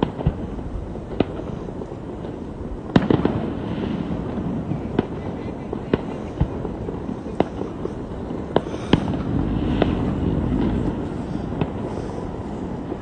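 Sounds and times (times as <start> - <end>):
distant fireworks bangs: 0.0 - 13.0
steady background noise: 0.0 - 13.0.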